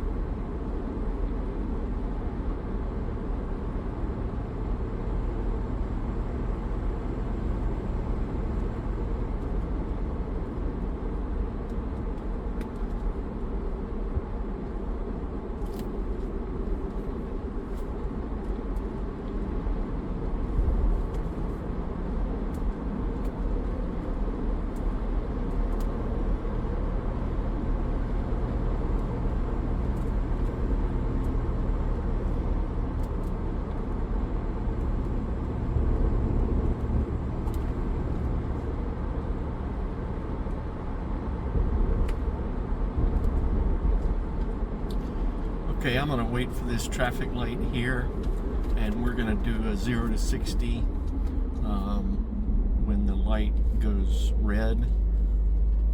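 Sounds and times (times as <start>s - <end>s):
engine running while driving: 0.0s - 55.9s
road and tyre noise: 0.0s - 55.9s.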